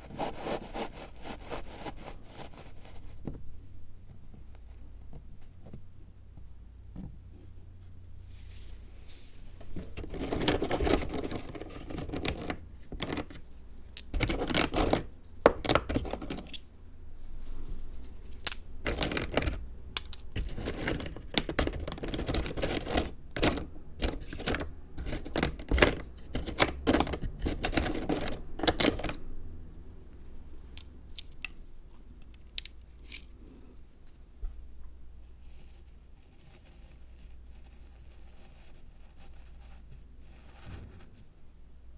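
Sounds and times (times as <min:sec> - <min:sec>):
scraping and rustling: 0:00.0 - 0:05.9, 0:07.4 - 0:41.4.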